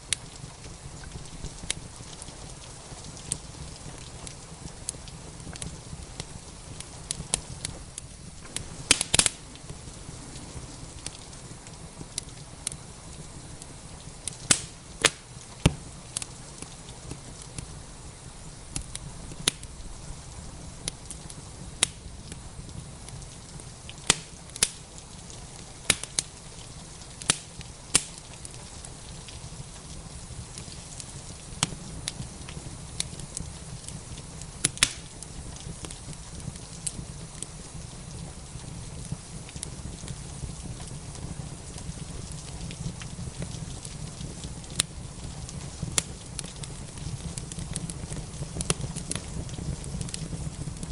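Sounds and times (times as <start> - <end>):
fire popping sharply: 0.0 - 50.9
rain hissing: 0.0 - 50.9
wood fire crackling: 0.0 - 50.9.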